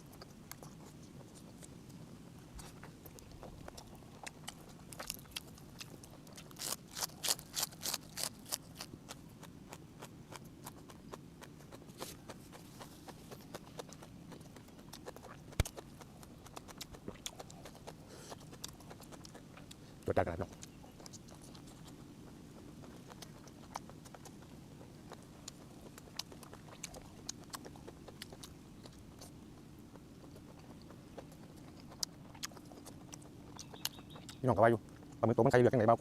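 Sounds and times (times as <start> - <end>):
wet chewing clicks and smacks: 0.0 - 35.9.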